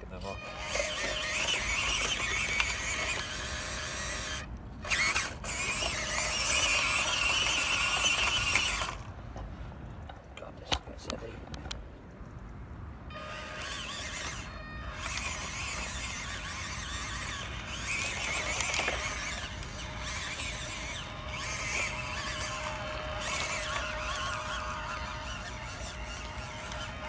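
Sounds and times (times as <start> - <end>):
toy car electric motor whining: 0.2 - 9.1, 13.1 - 27.0.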